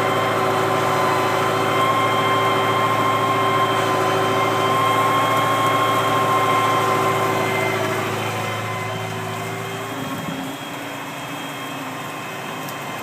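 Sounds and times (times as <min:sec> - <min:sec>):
high steady whine: 0:00.0 - 0:13.0
tractor diesel engine running: 0:00.0 - 0:13.0.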